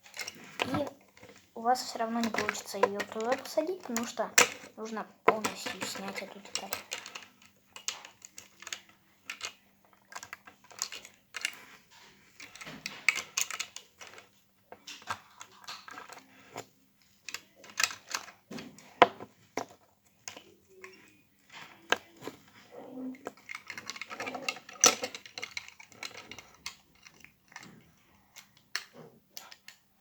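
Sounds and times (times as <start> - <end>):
plastic bricks clicking and clattering: 0.0 - 30.0.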